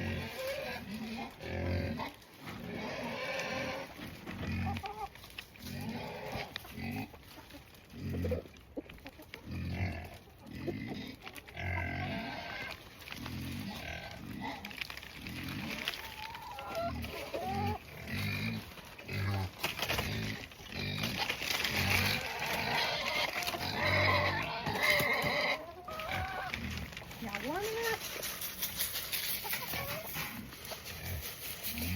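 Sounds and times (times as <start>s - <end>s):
pigs grunting: 0.0s - 7.2s, 7.8s - 8.6s, 9.4s - 31.9s.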